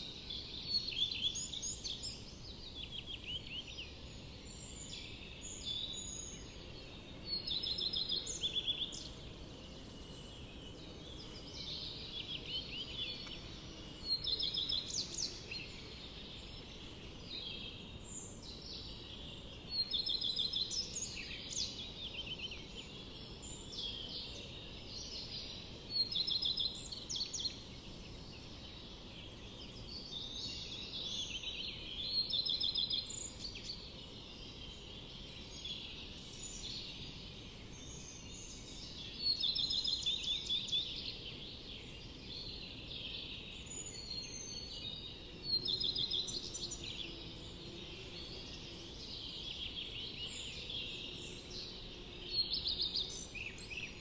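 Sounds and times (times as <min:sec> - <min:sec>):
low background hiss: 0:00.0 - 0:54.0
songbirds trilling: 0:00.0 - 0:54.0.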